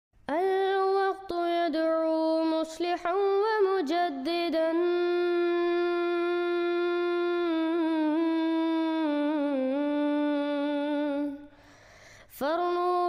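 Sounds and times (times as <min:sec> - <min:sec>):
person singing unaccompanied: 0:00.3 - 0:11.5, 0:12.3 - 0:13.0.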